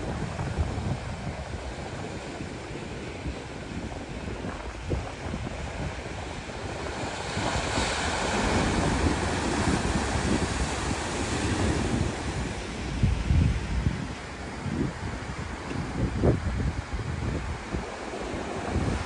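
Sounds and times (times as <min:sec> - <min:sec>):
surf rushing: 0:00.0 - 0:19.0
wind gusting on microphone: 0:00.0 - 0:19.0.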